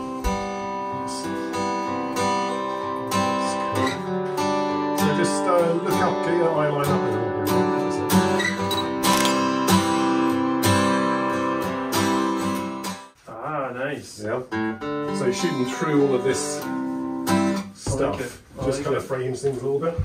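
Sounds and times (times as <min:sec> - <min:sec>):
acoustic guitar strumming: 0:00.0 - 0:13.2, 0:14.5 - 0:18.2.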